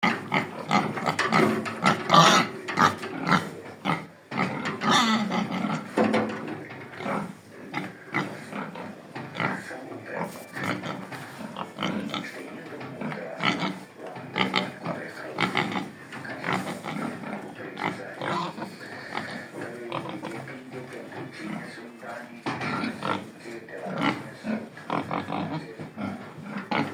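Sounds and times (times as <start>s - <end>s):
pigs grunting and calling: 0.0s - 26.9s.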